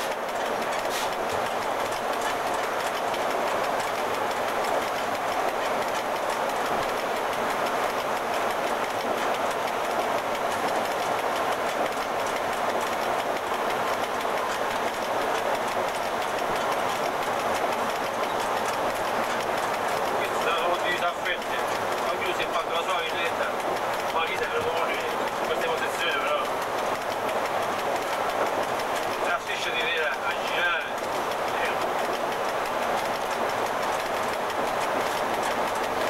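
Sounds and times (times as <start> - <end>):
faint rail joint clicks: 0.0 - 36.0
wheels rushing on rail: 0.0 - 36.0.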